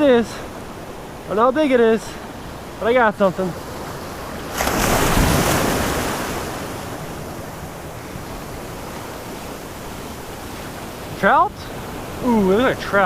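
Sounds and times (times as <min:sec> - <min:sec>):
surf wave breaking: 0:00.0 - 0:13.0.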